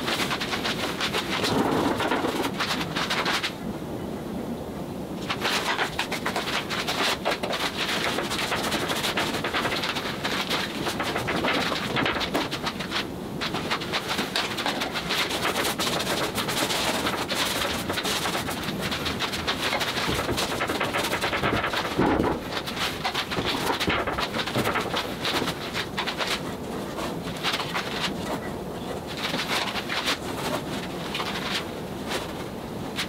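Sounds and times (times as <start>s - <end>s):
scratchy brush strokes on canvas: 0.0s - 3.6s, 5.2s - 33.0s.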